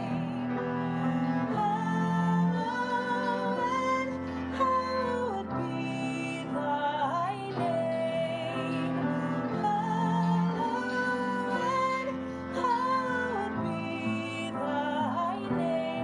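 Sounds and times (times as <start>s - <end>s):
cello: 0.0s - 16.0s
woman singing a hymn: 0.0s - 16.0s.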